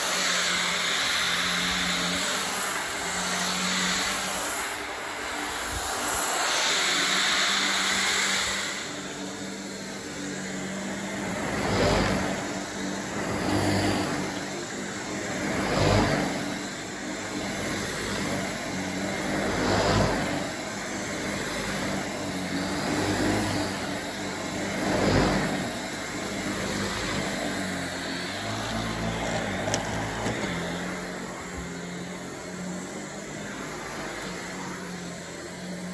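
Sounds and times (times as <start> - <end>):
stick vacuum running on carpet: 0.0 - 35.9.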